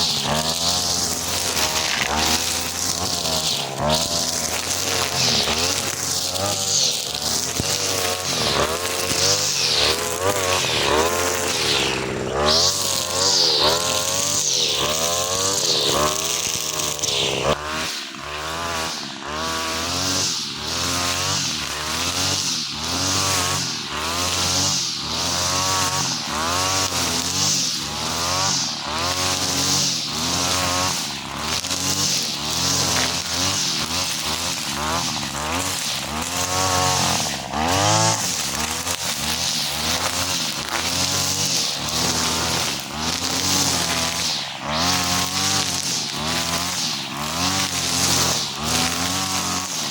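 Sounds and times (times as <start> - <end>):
brush cutter engine running: 0.0 - 49.9.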